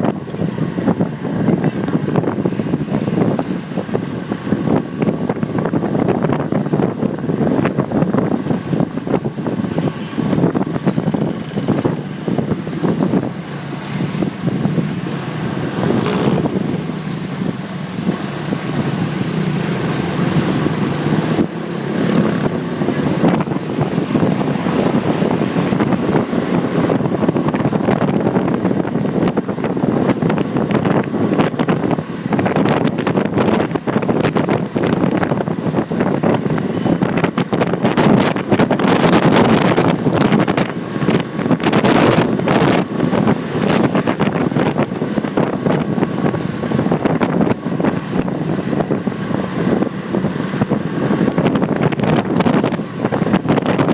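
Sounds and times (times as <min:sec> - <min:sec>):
motorcycle engine: 0:00.0 - 0:53.9
surrounding traffic: 0:00.0 - 0:53.9
wind buffeting microphone: 0:00.0 - 0:53.9.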